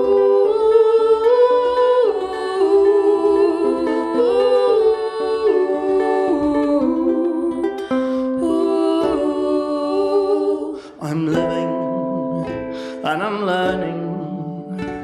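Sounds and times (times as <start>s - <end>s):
person humming a folk melody: 0.0s - 15.0s
ukulele accompaniment: 0.0s - 15.0s.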